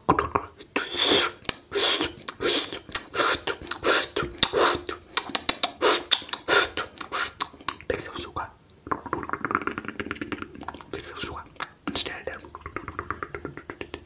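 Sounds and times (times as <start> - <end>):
mouth hissing and clicking: 0.2 - 14.0.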